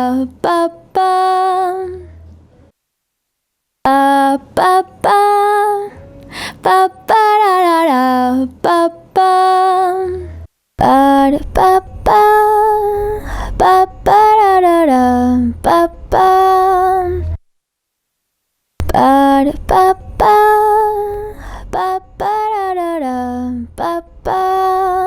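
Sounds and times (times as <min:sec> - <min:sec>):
woman singing: 0:00.0 - 0:02.2, 0:03.9 - 0:17.4, 0:18.8 - 0:25.0.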